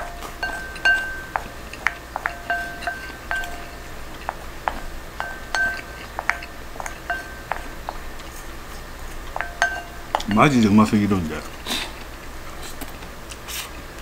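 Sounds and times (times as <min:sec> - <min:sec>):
wooden spoon scraping ceramic bowl: 0:00.0 - 0:12.8.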